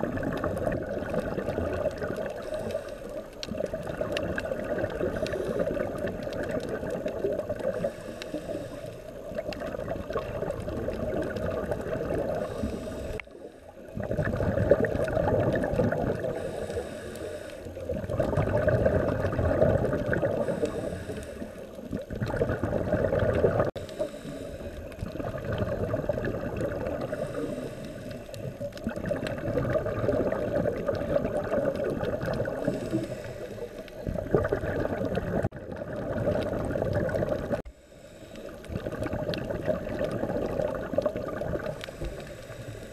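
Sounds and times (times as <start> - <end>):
diver's exhaled bubbles gurgling: 0.0 - 17.1, 17.7 - 37.7, 38.5 - 42.9.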